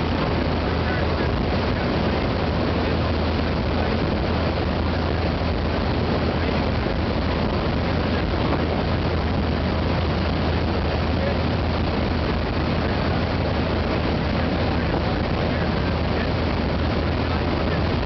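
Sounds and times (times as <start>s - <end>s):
aircraft engines and propellers droning: 0.0s - 18.0s
rushing wind: 0.0s - 18.0s.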